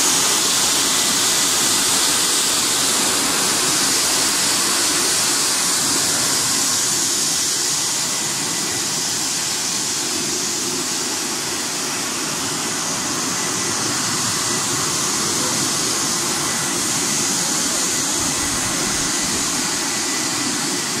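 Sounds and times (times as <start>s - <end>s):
air blowers rushing: 0.0s - 21.0s.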